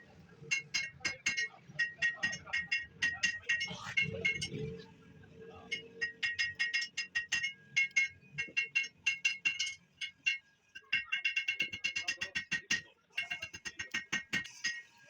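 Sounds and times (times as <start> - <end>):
rapid metal-on-metal tapping: 0.0 - 4.7, 5.7 - 15.0.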